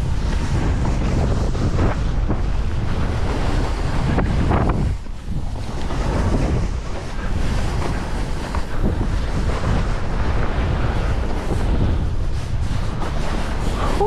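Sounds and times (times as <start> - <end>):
skis hissing over snow: 0.0 - 14.0
wind rumbling on microphone: 0.0 - 14.0.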